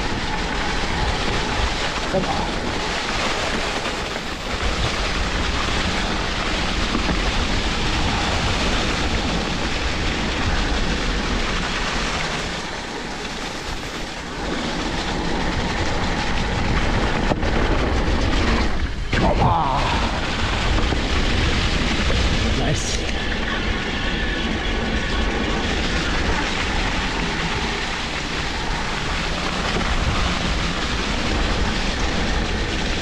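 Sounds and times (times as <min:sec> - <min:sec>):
bike tyres rumbling over trail: 0:00.0 - 0:33.0
wind on microphone: 0:00.0 - 0:33.0.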